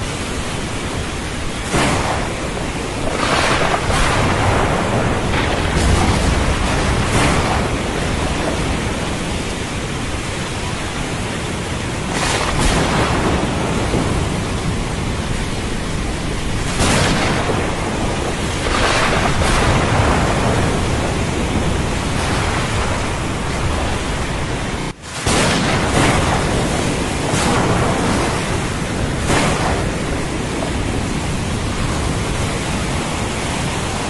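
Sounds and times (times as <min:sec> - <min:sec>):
heavy rain hiss: 0:00.0 - 0:34.0
low rumble of thunder: 0:00.0 - 0:34.0.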